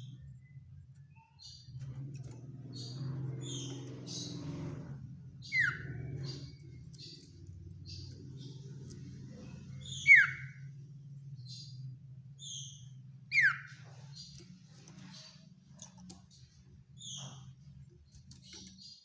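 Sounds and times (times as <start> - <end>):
high bird chirping: 0.0 - 19.0
steady low hum: 0.0 - 19.0.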